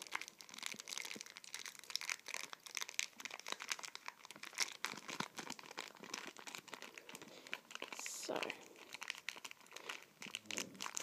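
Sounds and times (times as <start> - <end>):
foil pack crinkling: 0.0 - 11.0.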